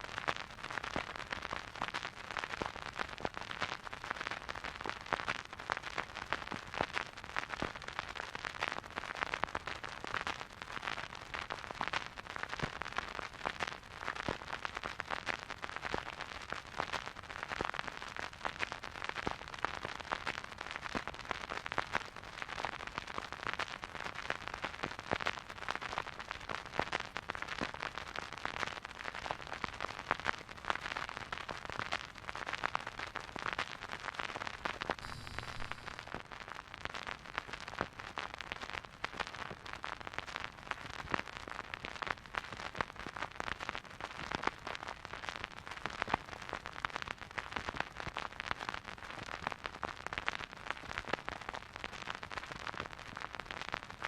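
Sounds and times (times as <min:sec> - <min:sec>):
vinyl record crackle: 0:00.0 - 0:54.0.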